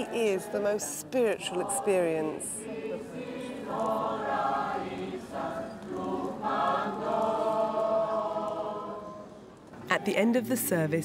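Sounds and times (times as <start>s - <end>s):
voices chanting a hymn: 0.0s - 9.5s.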